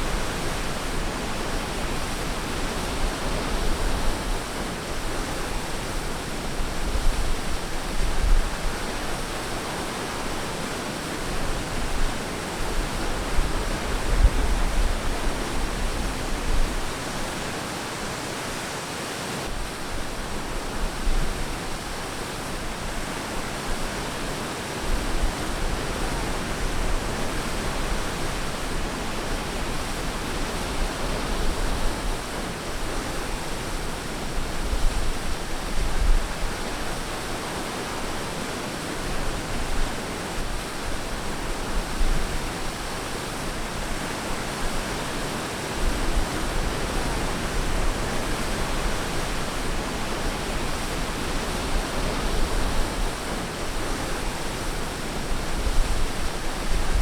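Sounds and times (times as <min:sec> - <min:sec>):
low rumble of surf: 0:00.0 - 0:57.0
ocean waves breaking on beach: 0:00.0 - 0:57.0.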